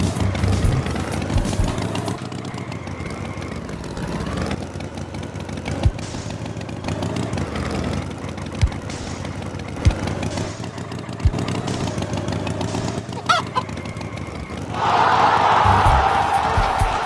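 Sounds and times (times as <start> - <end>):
cartoon tractor engine rumble: 0.0 - 17.0.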